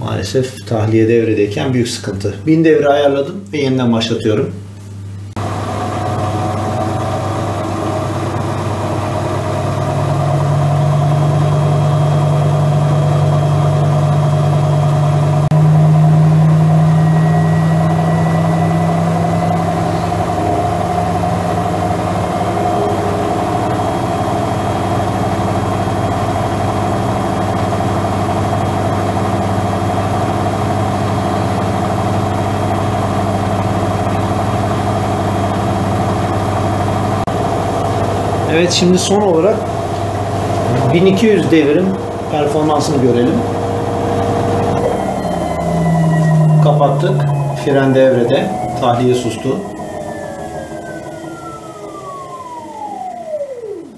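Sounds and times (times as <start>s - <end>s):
drain pump humming: 4.7s - 53.9s
washing machine drum spinning: 5.4s - 53.9s.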